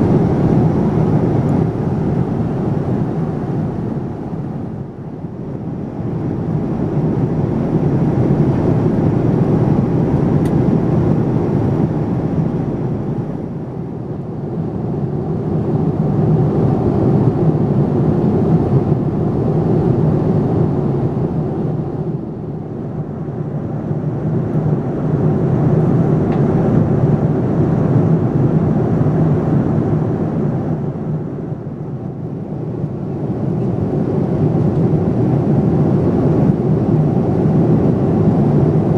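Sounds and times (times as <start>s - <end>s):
jet engine cabin rush: 0.0s - 38.9s.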